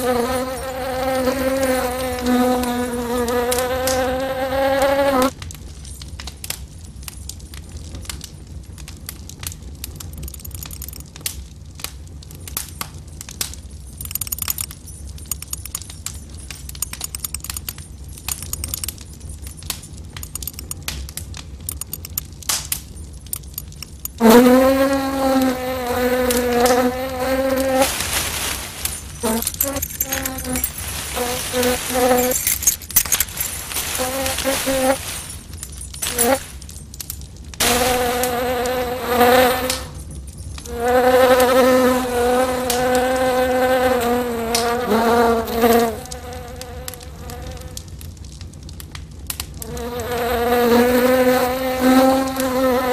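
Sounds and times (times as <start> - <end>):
small clicks and crackles: 0.0 - 41.6, 43.9 - 52.9.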